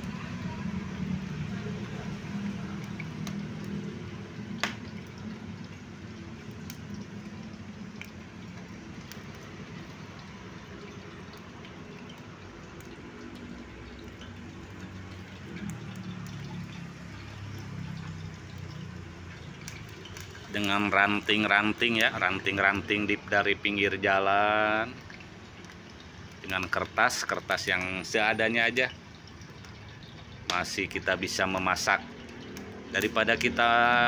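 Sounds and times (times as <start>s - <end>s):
cooking oil heating in a pan: 0.0s - 34.0s
low rumble of road traffic: 0.0s - 34.0s
small fire crackling and popping: 0.0s - 34.0s.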